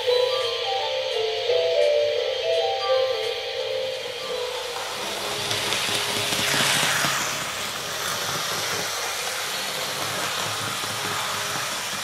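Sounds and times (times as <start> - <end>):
model train motors humming: 0.0 - 12.0
model train passing close: 0.0 - 12.0.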